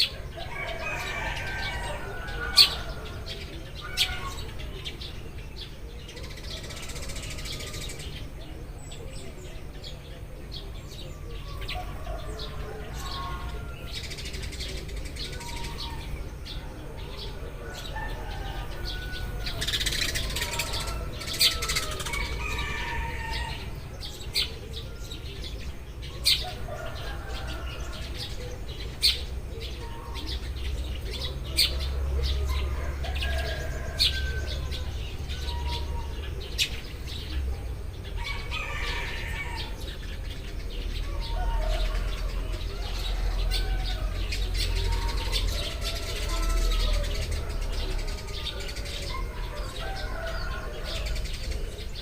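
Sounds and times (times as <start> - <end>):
sparrows chirping: 0.0 - 52.0.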